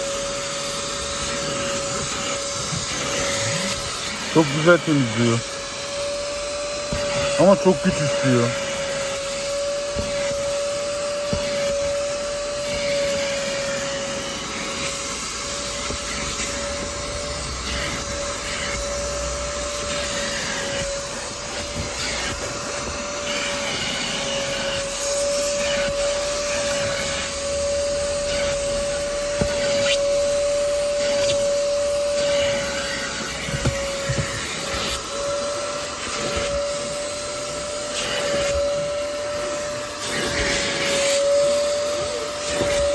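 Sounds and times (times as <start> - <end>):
wet-extraction vacuum running: 0.0 - 42.9.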